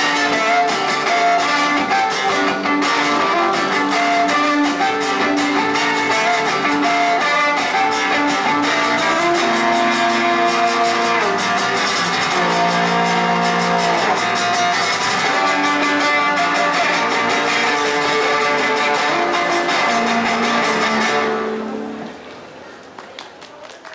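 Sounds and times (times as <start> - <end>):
violin melody: 0.0 - 22.1
acoustic guitar strummed: 0.0 - 22.2.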